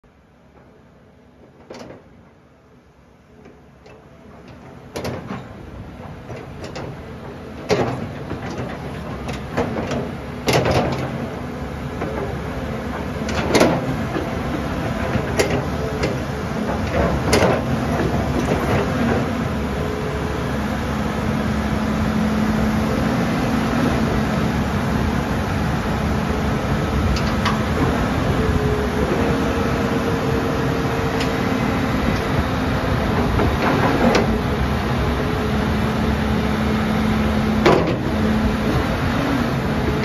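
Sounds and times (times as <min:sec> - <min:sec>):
excavator running: 0:00.1 - 0:40.0.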